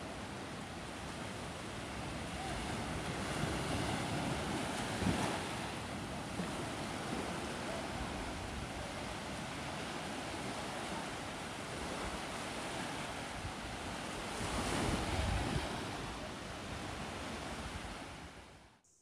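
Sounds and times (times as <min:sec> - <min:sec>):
small waves breaking on sand: 0:00.0 - 0:18.6
wind on microphone: 0:00.0 - 0:18.6.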